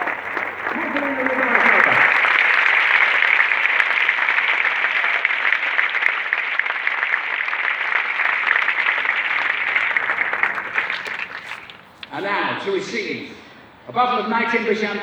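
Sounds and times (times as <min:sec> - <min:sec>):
crowd applauding: 0:00.0 - 0:13.8.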